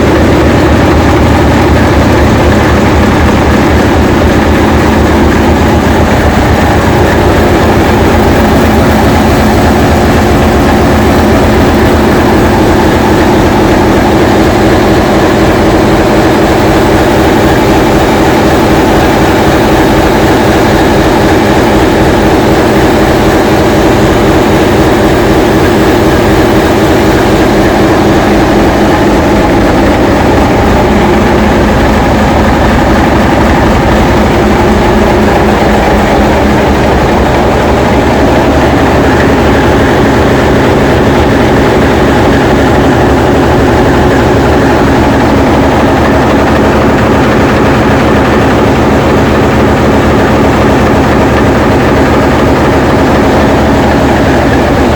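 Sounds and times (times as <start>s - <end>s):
diesel locomotive engine running: 0.0s - 54.9s.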